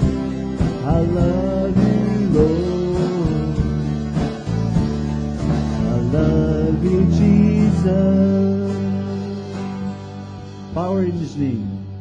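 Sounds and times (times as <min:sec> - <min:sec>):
gospel song closing chord with guitar: 0:00.0 - 0:12.0.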